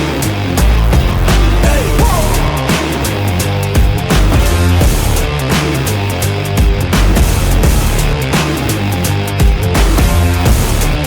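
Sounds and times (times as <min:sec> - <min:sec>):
hard-driving backing music: 0:00.0 - 0:11.0
steady drum beat: 0:00.0 - 0:11.0.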